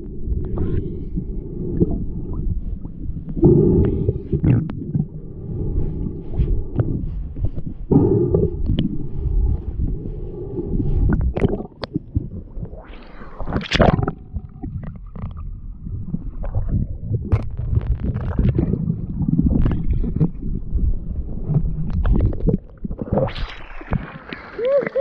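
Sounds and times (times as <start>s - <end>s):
muffled underwater rumble: 0.0s - 25.0s.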